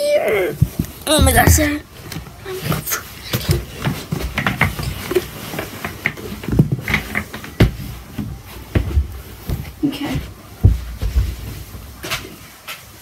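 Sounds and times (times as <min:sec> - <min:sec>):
rustling: 0:00.0 - 0:13.0
heavy footsteps: 0:00.6 - 0:12.7.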